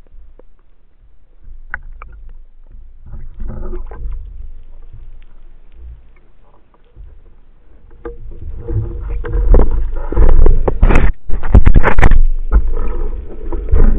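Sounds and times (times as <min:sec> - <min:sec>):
water sloshing and rushing: 0:00.0 - 0:13.9.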